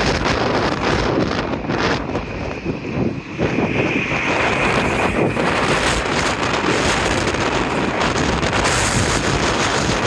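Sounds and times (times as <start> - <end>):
high-pitched whine: 0.0 - 10.0
wind buffeting microphone: 0.0 - 10.0.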